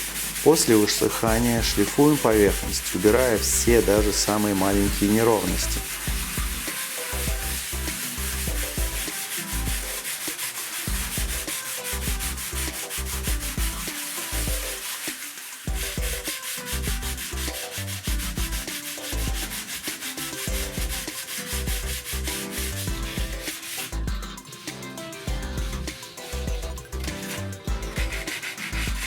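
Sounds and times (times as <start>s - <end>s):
sanding drywall: 0.0s - 25.3s, 27.0s - 29.0s.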